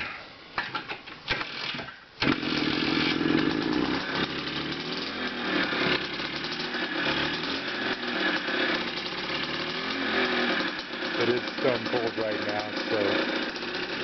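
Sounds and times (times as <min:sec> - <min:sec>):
two-stroke engine starting: 0:01.3 - 0:14.0.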